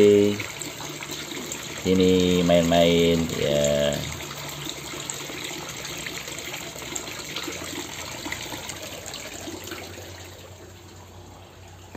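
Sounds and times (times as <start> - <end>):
pond water splashing and trickling: 0.0 - 11.9.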